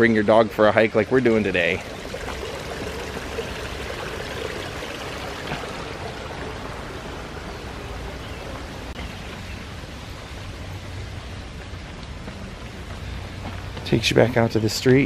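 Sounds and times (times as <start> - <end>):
stream rushing and trickling: 0.0 - 15.0.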